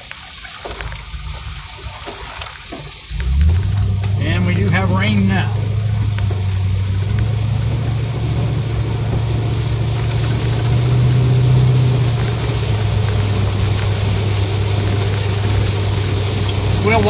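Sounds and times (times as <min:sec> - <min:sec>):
rain hissing on vehicle: 0:00.0 - 0:17.0
vehicle engine idling: 0:03.1 - 0:17.0.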